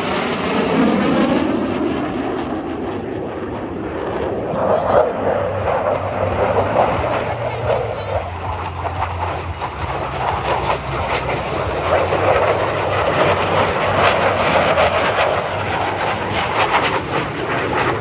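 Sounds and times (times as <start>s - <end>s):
aircraft engine flying past: 0.0s - 18.0s.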